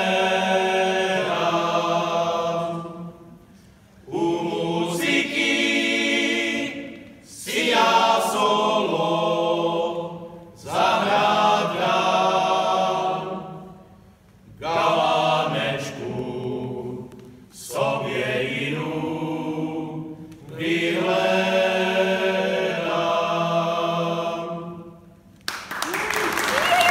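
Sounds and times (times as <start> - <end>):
men's choir singing a cappella: 0.0 - 3.4, 4.0 - 13.8, 14.5 - 25.1.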